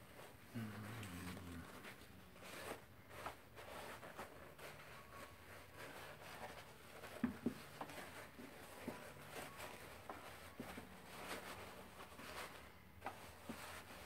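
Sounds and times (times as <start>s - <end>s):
fabric rustling: 0.0s - 14.0s.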